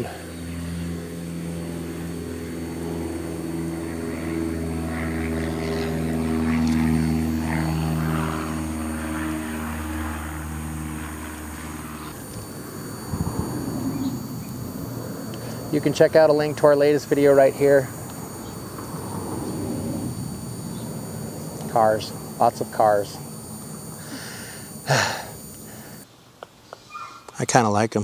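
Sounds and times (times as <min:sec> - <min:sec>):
propeller airplane engine drone: 0:00.0 - 0:26.0.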